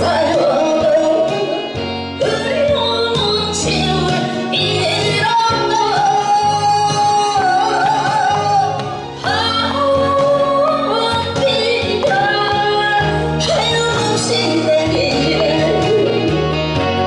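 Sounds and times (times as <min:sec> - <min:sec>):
instrumental accompaniment: 0:00.0 - 0:17.0
woman singing into microphone: 0:00.0 - 0:17.0.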